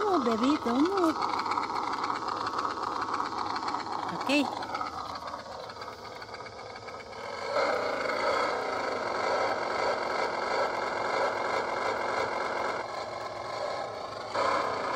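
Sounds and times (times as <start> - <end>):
toy motorcycle motor whirring: 0.0 - 14.9
wheels rolling over gravel: 0.0 - 14.9.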